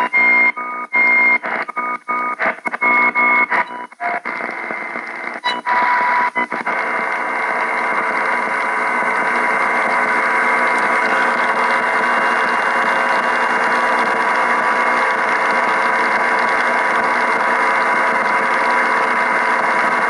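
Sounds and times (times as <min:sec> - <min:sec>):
buzzy radio tones: 0:00.0 - 0:20.0
radio static hiss: 0:00.0 - 0:20.0.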